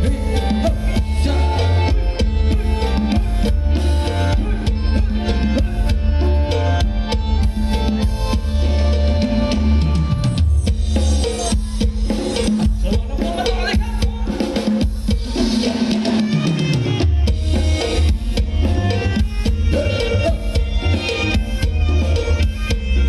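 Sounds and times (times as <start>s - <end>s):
live band playing dance music: 0.0s - 23.0s.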